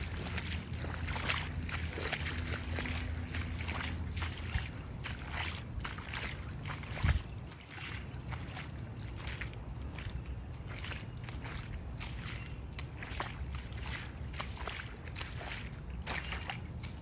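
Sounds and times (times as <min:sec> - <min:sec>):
footsteps squelching through mud: 0:00.0 - 0:17.0.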